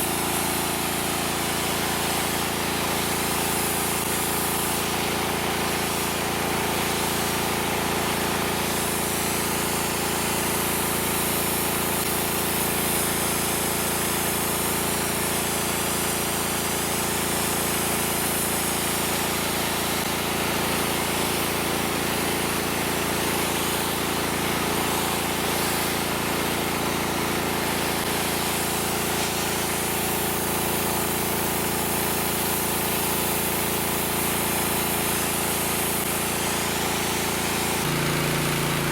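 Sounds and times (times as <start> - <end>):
high-pressure water jet hissing: 0.0 - 38.9.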